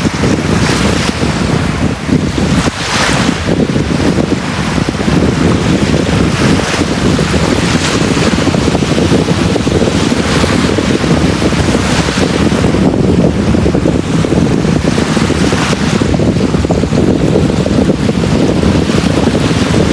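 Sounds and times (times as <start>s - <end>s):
sea waves breaking on beach: 0.0s - 19.9s
wind rumble on microphone: 0.0s - 19.9s.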